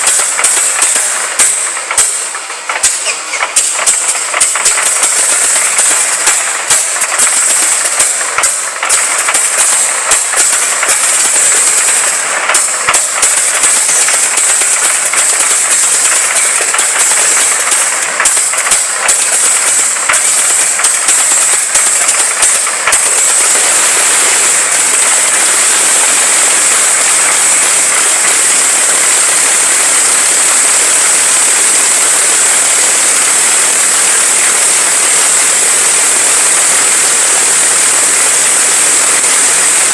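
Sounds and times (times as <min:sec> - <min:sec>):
sharp engine cracks: 0:00.0 - 0:39.9.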